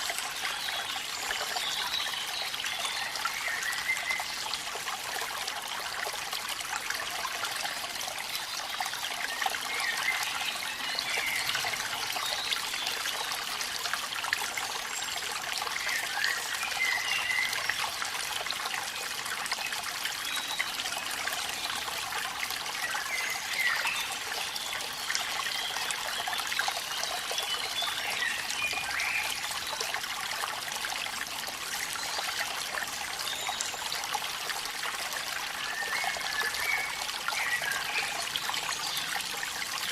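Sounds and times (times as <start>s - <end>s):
small waterfall trickling and splashing: 0.0s - 39.9s.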